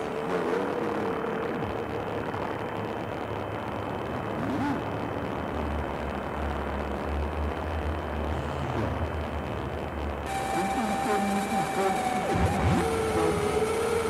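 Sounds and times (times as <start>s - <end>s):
dense electronic noise texture: 0.0s - 14.0s.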